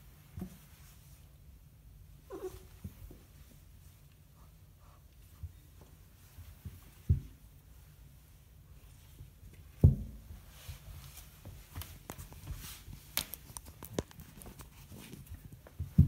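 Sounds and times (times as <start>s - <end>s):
fur and claws on carpet: 2.3s - 16.0s.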